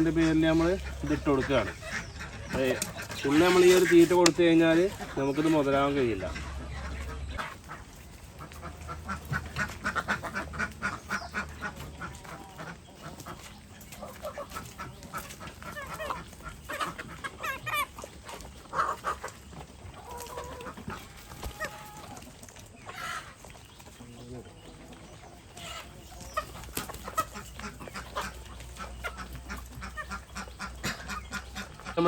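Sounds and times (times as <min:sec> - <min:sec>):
chickens clucking and calling: 0:00.0 - 0:32.0.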